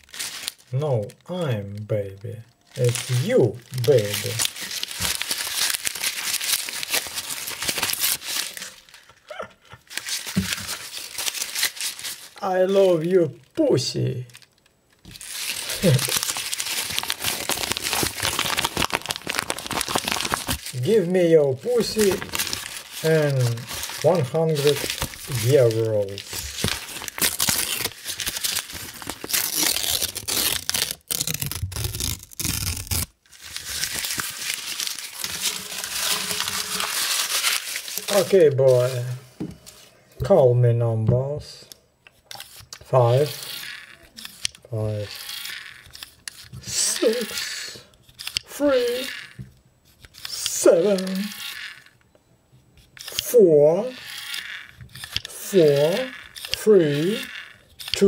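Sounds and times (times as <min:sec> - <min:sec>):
banknotes crumpling: 0:00.0 - 0:00.8, 0:02.6 - 0:12.4, 0:15.1 - 0:39.8, 0:42.5 - 0:47.9, 0:48.6 - 0:51.9, 0:55.3 - 0:58.0.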